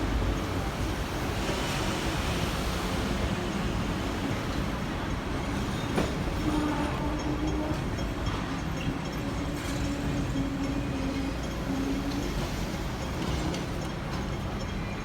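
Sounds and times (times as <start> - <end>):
tram rumbling along tracks: 0.0 - 15.0.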